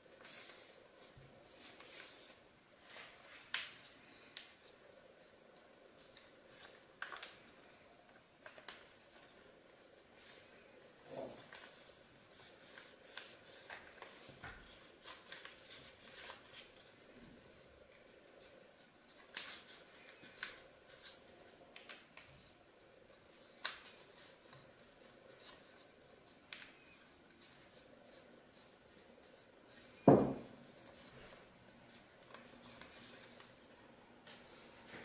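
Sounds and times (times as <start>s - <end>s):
paper rustling: 0.1s - 4.6s, 6.0s - 9.4s, 10.1s - 17.1s, 18.0s - 22.5s, 23.2s - 33.6s.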